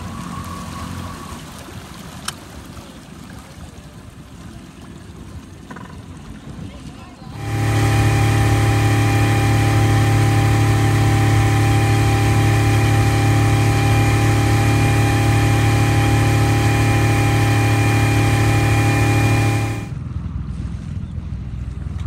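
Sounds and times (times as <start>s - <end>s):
outboard motor droning: 0.0s - 22.0s.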